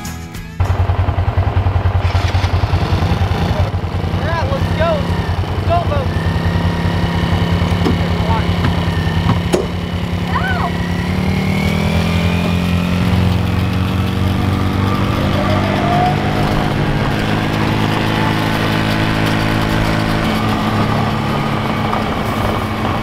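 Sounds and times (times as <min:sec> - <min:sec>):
atv engine running: 0:00.6 - 0:23.0.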